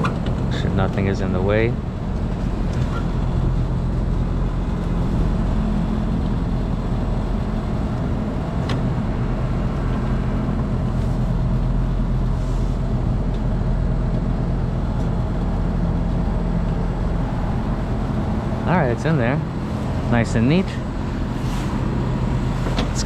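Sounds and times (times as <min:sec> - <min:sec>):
machinery droning: 0:00.0 - 0:23.0.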